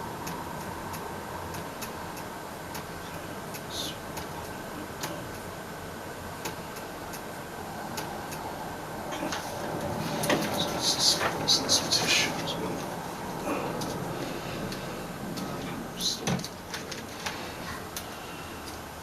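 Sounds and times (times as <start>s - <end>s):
faint hum: 0.0s - 19.0s
room hiss: 0.0s - 19.0s.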